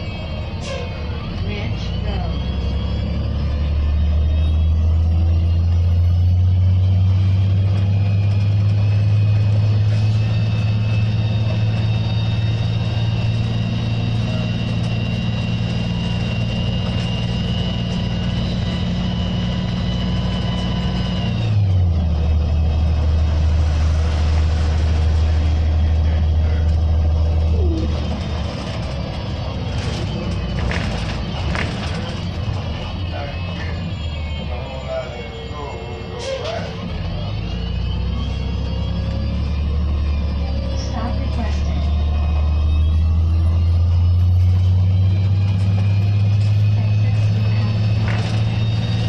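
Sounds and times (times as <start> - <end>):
bus engine droning: 0.0 - 49.0.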